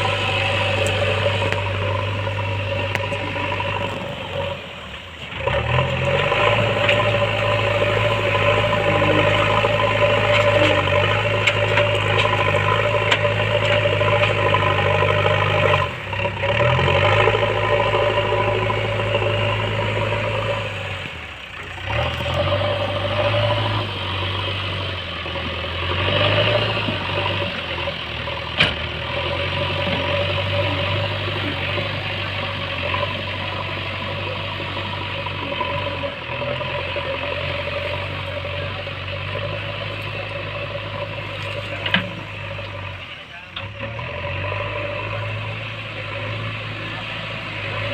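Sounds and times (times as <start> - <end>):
diesel engine under load: 0.0 - 47.9.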